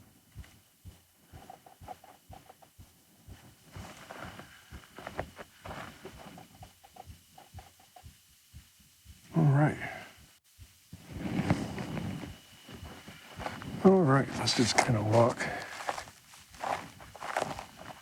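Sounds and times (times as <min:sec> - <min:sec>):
footsteps on rough ground: 0:00.0 - 0:08.2, 0:10.6 - 0:18.0.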